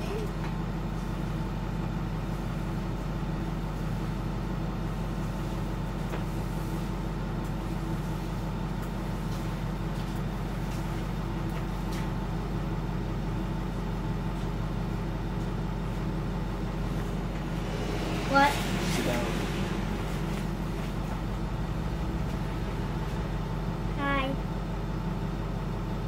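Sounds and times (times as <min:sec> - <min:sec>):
bus engine idling: 0:00.0 - 0:26.0.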